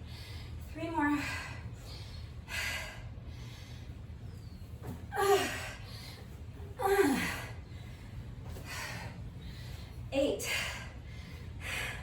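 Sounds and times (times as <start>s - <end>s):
woman breathing hard: 0.0s - 12.0s.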